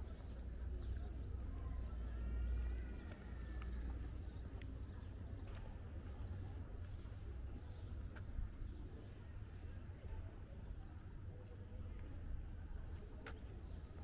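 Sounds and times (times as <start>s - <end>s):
low town rumble: 0.0s - 14.0s.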